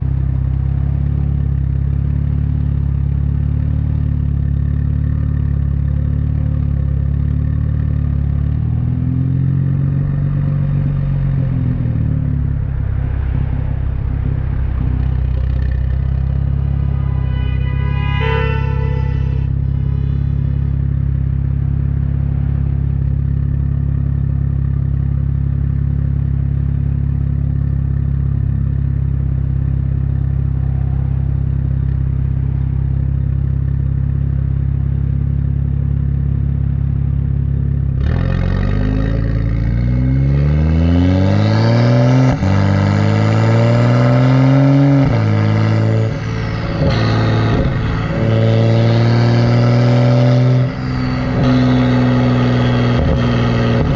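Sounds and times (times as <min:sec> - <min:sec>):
car engine idling and revving: 0:00.0 - 0:53.9.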